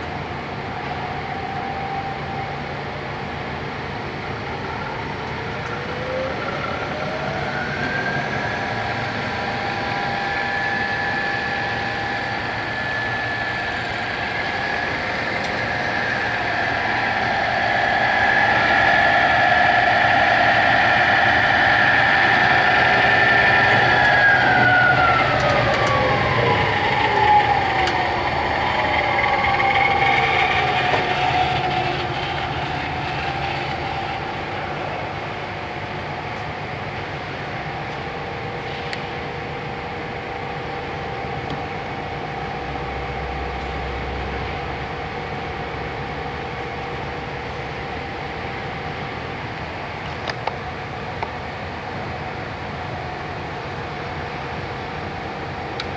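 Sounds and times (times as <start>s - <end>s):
lathe spindle whine: 0.0s - 55.9s.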